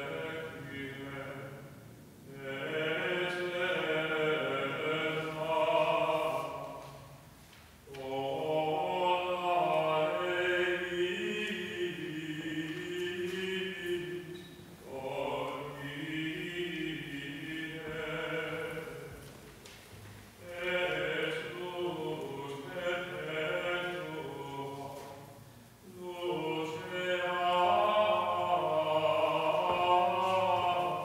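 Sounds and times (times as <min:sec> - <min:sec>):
choir singing chant: 0:00.0 - 0:07.1, 0:07.9 - 0:19.3, 0:20.4 - 0:31.0.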